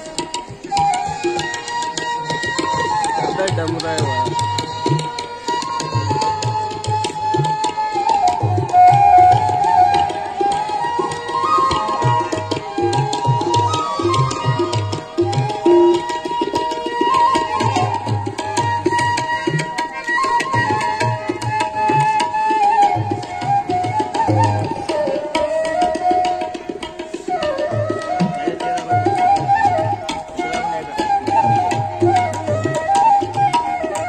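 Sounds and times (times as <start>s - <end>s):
bamboo flute melody: 0.0s - 34.0s
tabla rhythm: 0.0s - 34.0s.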